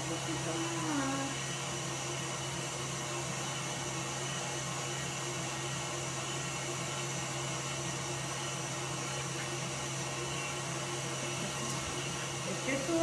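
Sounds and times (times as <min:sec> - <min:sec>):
stand mixer whirring: 0:00.0 - 0:13.0.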